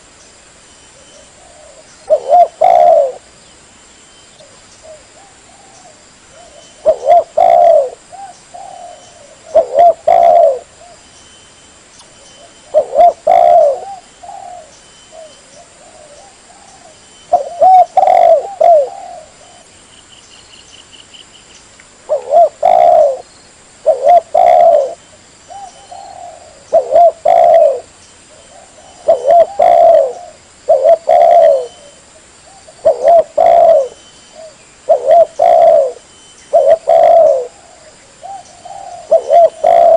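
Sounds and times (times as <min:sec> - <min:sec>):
dove cooing: 0:01.2 - 0:03.3, 0:04.8 - 0:11.0, 0:12.4 - 0:19.7, 0:22.1 - 0:39.9.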